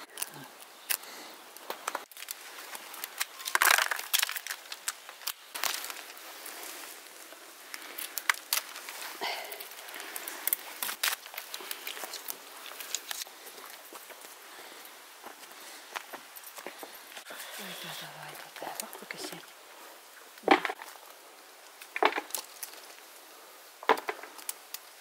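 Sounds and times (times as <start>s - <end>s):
bush branches rustling: 0.0s - 25.0s
twigs crackling and snapping: 0.0s - 25.0s.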